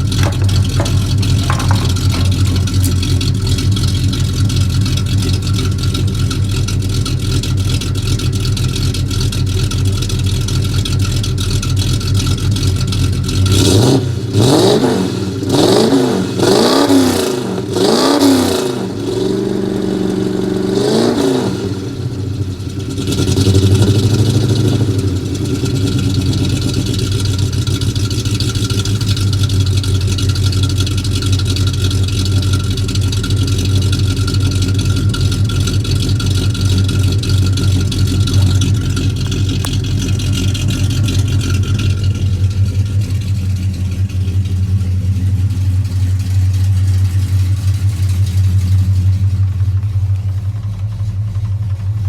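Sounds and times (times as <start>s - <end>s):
truck engine revving and idling: 0.0s - 52.0s.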